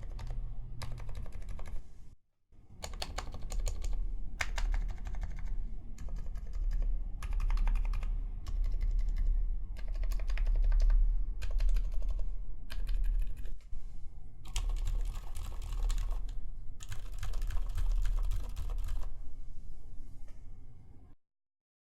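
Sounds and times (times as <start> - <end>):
quiet keyboard typing: 0.0 - 1.9, 2.8 - 13.7, 14.4 - 19.2.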